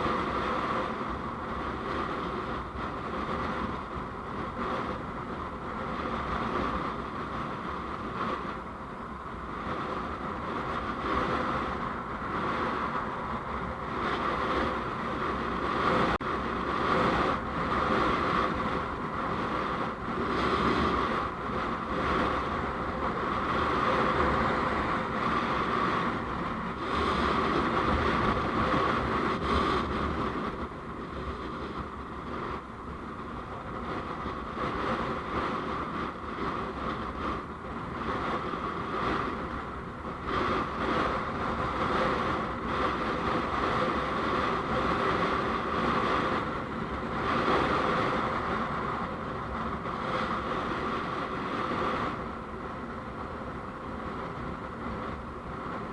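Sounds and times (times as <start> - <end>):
road noise from moving vehicle: 0.0 - 55.9.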